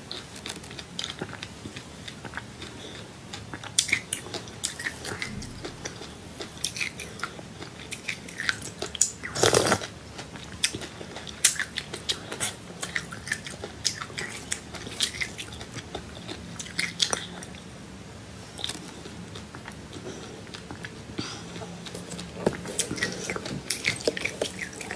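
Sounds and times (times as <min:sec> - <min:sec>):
person chewing crunchy seeds: 0:00.1 - 0:17.4, 0:18.6 - 0:24.9.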